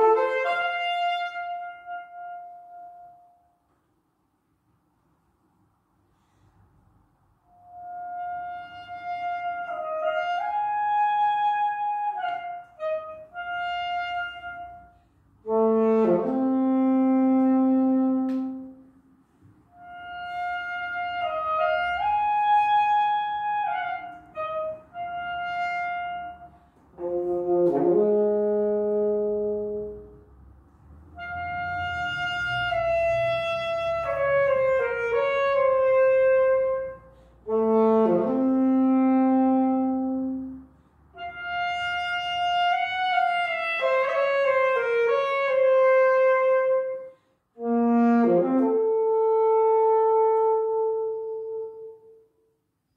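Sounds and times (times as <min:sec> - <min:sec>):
saxophone slow melody: 0:00.0 - 0:03.6, 0:07.4 - 0:30.4, 0:31.0 - 0:52.6.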